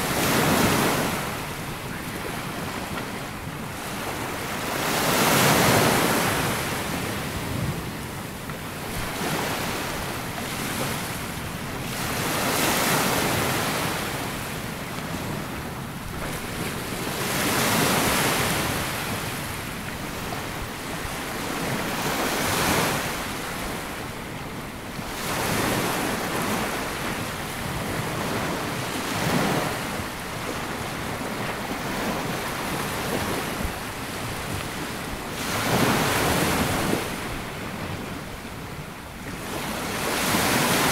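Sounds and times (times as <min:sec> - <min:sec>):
waves washing onto sand: 0:00.0 - 0:40.9
wind noise on microphone: 0:00.0 - 0:40.9.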